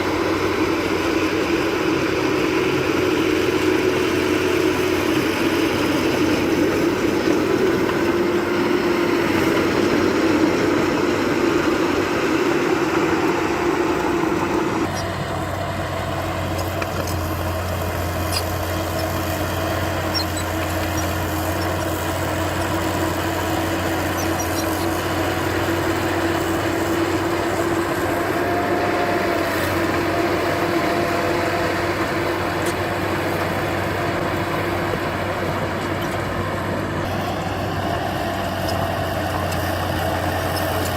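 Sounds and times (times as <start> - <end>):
heavy machinery diesel engine running: 0.0 - 40.9.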